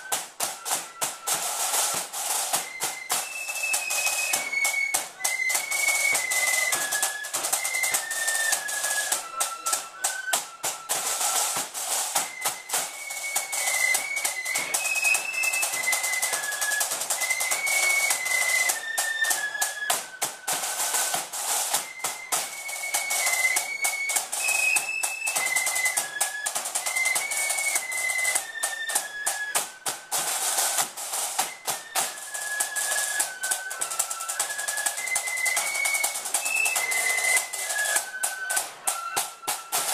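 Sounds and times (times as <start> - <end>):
flutes playing melody in unison: 0.0 - 39.9
snare drums beating: 0.0 - 39.9.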